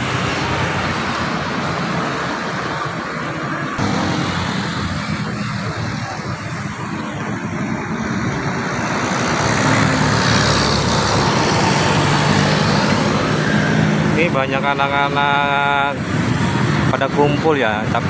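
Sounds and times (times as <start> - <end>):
coach bus passing: 0.0 - 14.6
road traffic passing: 0.0 - 18.0.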